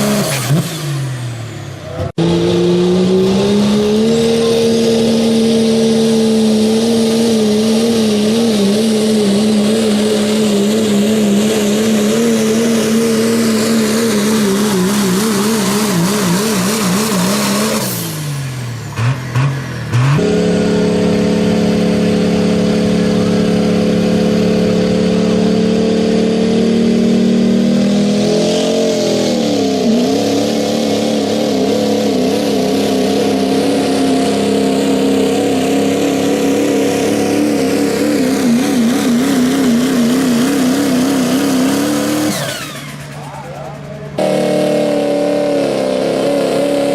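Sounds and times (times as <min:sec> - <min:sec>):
diesel engine at high revs: 0:00.0 - 0:46.9.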